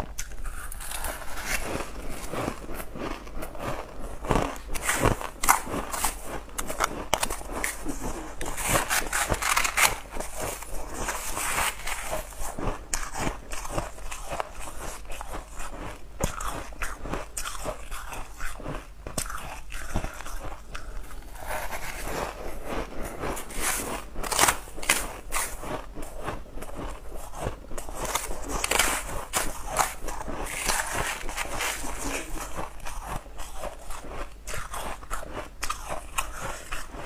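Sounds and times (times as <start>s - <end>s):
ice being crunched and chewed: 0.0s - 37.0s.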